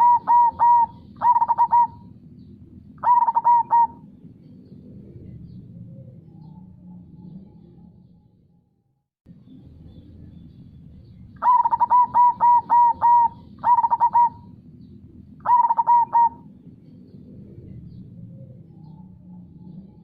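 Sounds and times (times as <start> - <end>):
dove cooing: 0.0 - 7.8, 11.4 - 20.0.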